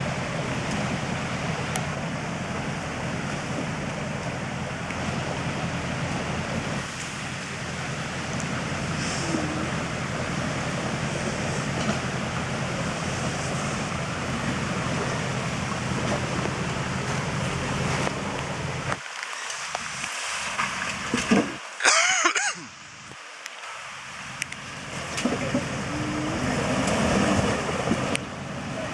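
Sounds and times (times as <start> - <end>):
vehicle rumbling over rocks: 0.0 - 19.0, 19.6 - 21.7, 24.4 - 28.9.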